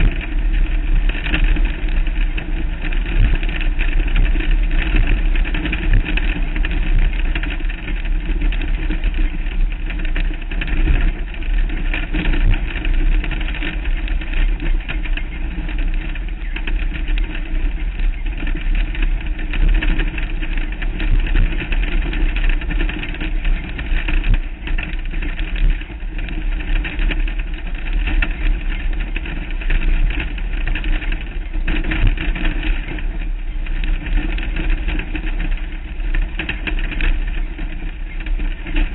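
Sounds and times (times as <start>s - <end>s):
vehicle engine running: 0.0s - 38.9s
wind noise on microphone: 0.0s - 38.9s.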